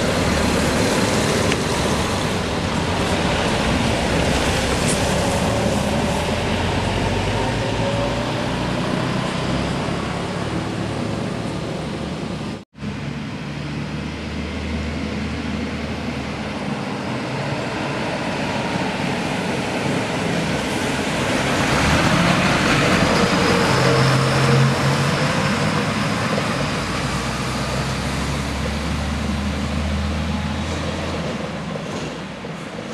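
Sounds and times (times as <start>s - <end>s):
heavy vehicle passing: 0.0s - 31.5s.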